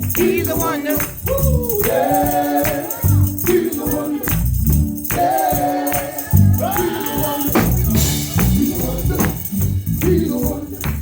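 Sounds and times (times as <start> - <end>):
gospel band playing: 0.0 - 11.0.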